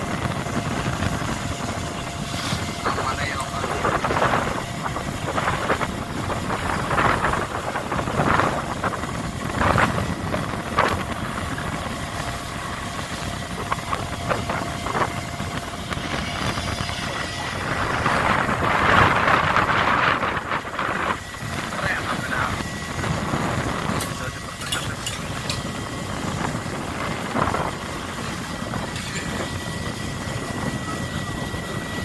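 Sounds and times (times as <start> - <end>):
boat engine running: 0.0 - 32.0
deck machinery running: 0.0 - 32.0.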